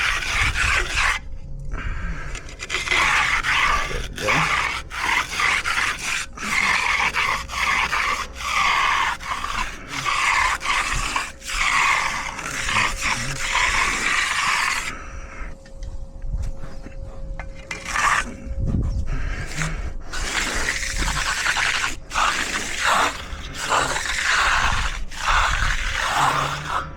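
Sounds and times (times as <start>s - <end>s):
tool scraping wet concrete: 0.0s - 1.3s, 2.2s - 15.0s, 17.5s - 18.5s, 19.3s - 26.9s.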